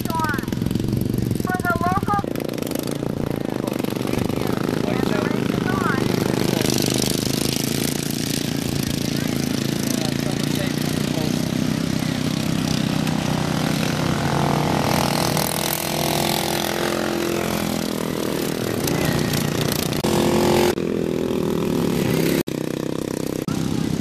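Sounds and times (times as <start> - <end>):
lawn mower engines racing: 0.0 - 24.0.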